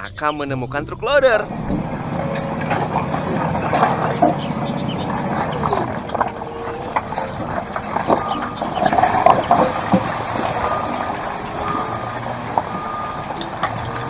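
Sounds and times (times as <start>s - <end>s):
wheel loader engine running: 0.0s - 14.0s
rocks clattering against bucket: 1.6s - 14.0s.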